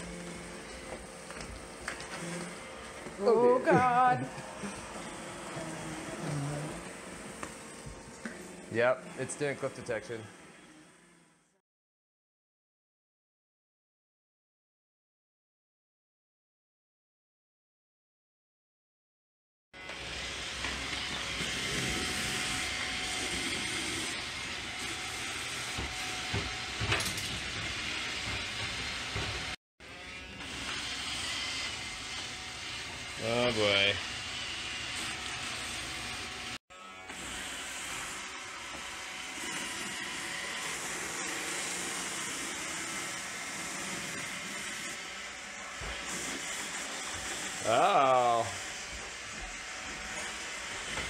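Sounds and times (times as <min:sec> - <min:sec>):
robot vacuum whirring: 0:00.0 - 0:11.3, 0:19.8 - 0:51.0.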